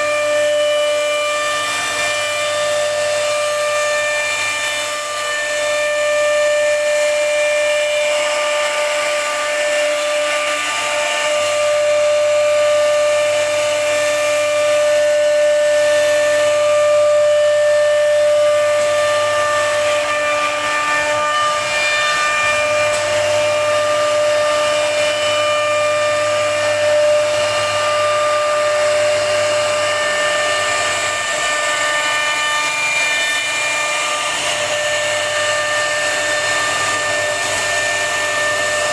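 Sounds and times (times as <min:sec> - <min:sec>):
router spindle high-pitched whine: 0:00.0 - 0:38.9.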